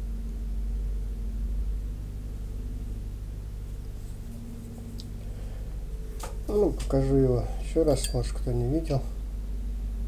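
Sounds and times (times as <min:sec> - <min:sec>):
faint constant tones: 0:00.0 - 0:10.0
steady low hum: 0:00.0 - 0:10.0.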